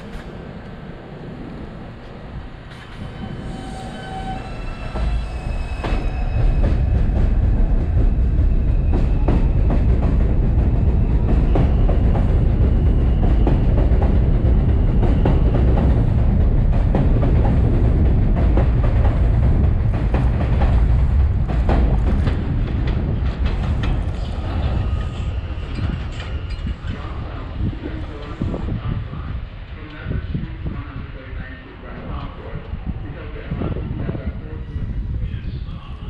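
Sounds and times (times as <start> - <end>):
subway train rumbling past: 0.0 - 36.0.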